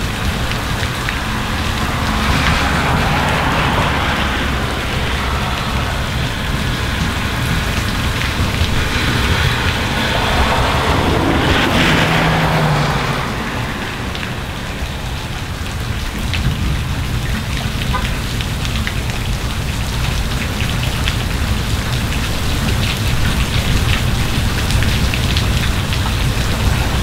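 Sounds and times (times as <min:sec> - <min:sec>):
car tyres hissing on wet road: 0:00.0 - 0:27.0
heavy rain on pavement: 0:00.0 - 0:27.0.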